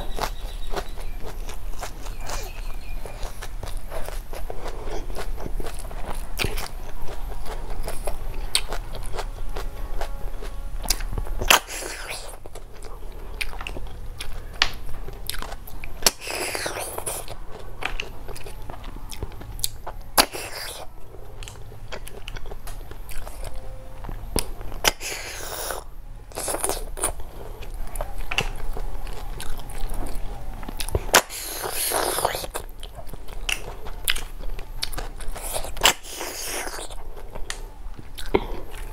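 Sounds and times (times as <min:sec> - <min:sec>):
chewing and crunching: 0:00.0 - 0:38.9
low steady hum: 0:00.0 - 0:38.9.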